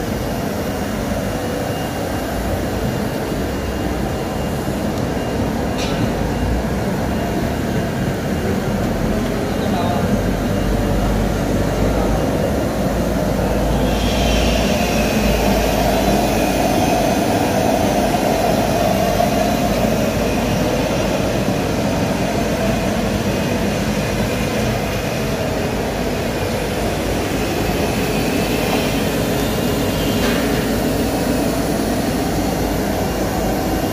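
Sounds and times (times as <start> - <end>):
high machine whine: 0.0 - 33.9.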